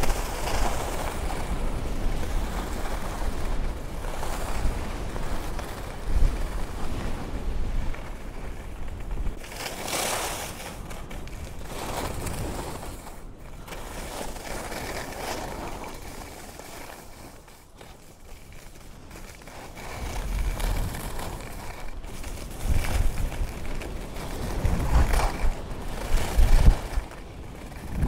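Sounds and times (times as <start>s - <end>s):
skis scraping on snow: 0.0s - 28.0s
wind buffeting microphone: 0.0s - 28.0s.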